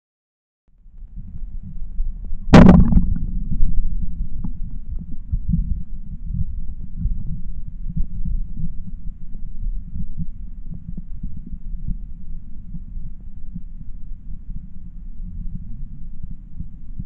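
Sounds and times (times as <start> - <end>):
muffled underwater water rumble: 0.7 - 17.0.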